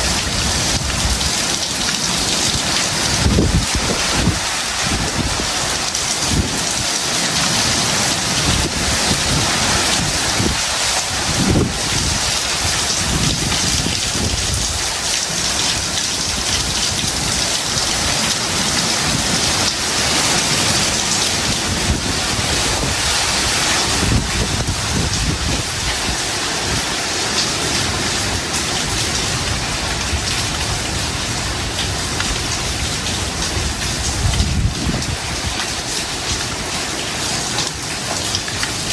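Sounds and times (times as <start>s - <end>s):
heavy rain pouring: 0.0s - 38.9s
wind gusts rumbling: 0.0s - 38.9s.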